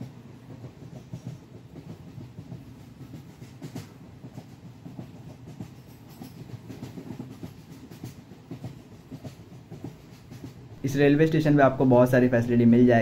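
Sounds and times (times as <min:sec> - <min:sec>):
train coach rumbling: 0:00.0 - 0:13.0
train wheel clicks on rails: 0:00.0 - 0:13.0.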